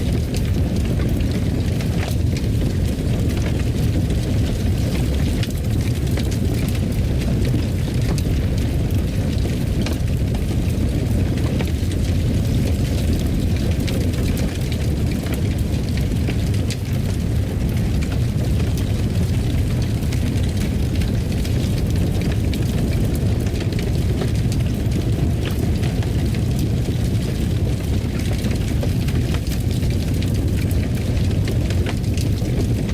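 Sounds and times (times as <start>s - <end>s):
fire crackling and popping: 0.0s - 32.9s
fire rumbling: 0.0s - 32.9s.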